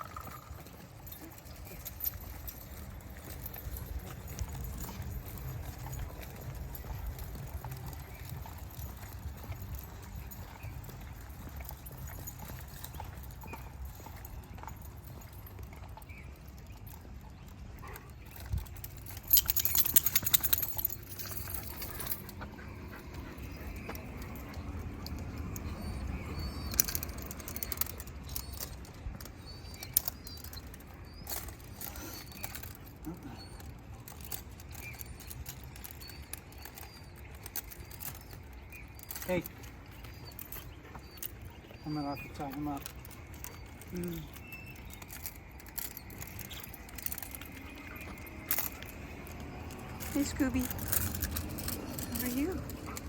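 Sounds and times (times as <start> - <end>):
metallic jingling: 0.0 - 53.0.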